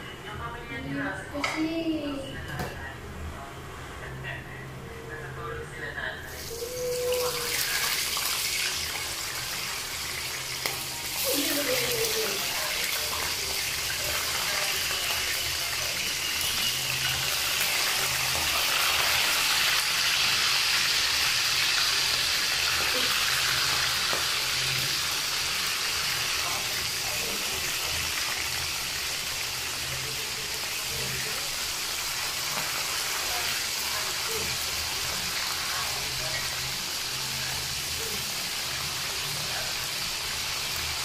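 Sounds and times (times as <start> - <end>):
oil sizzling in frying pan: 6.3 - 41.0.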